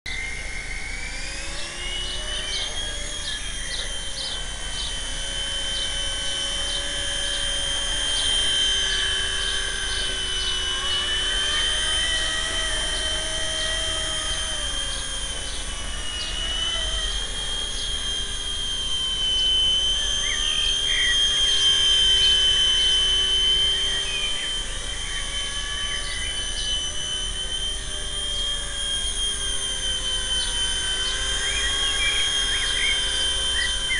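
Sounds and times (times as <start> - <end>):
toy helicopter motor whining: 0.1 - 33.9.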